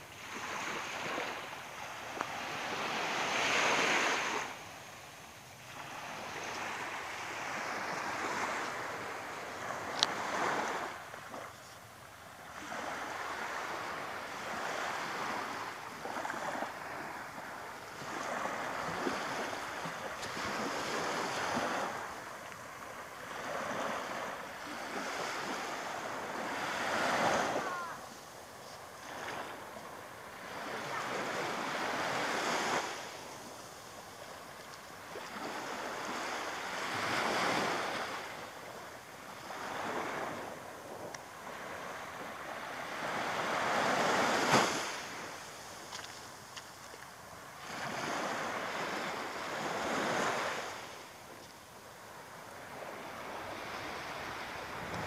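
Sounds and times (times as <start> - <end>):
small waves breaking on beach: 0.0 - 55.0.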